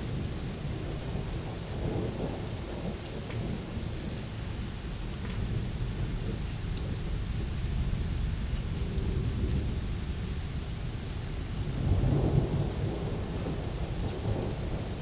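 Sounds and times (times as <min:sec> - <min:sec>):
thunder rumbling: 0:00.0 - 0:04.7, 0:05.4 - 0:10.5, 0:11.6 - 0:15.0
steady rain: 0:00.0 - 0:15.0.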